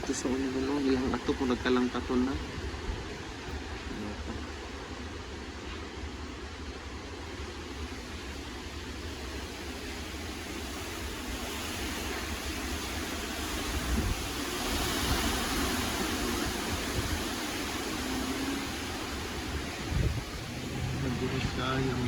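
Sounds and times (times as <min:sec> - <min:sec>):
strong wind gusts: 0:00.0 - 0:22.0
wind buffeting microphone: 0:00.0 - 0:22.0.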